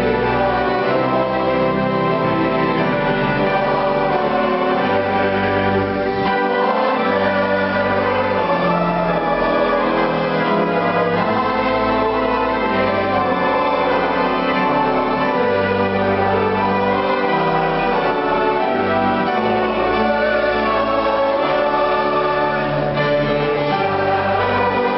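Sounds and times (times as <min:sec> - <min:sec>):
organ music: 0:00.0 - 0:24.9.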